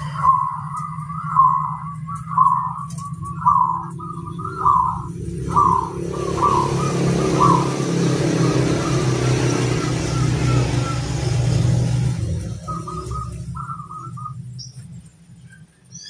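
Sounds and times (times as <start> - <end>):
dove cooing: 0.0 - 14.5
vehicle engine running: 0.0 - 16.0.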